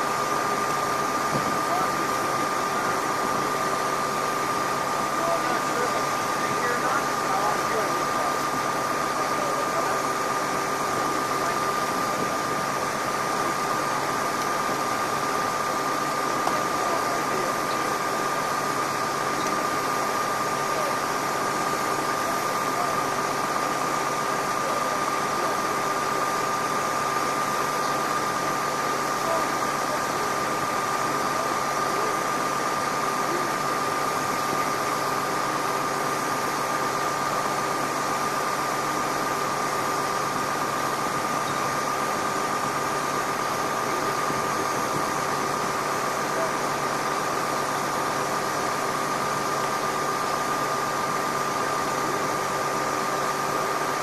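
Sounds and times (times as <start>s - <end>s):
air-conditioning units hum: 0.0s - 54.0s
constant high whine: 0.0s - 54.0s
idling bus engines: 0.0s - 54.0s.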